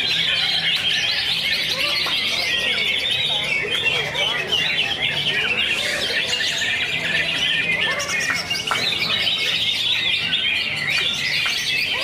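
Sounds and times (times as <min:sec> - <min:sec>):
bird singing chirping phrases: 0:00.0 - 0:12.0.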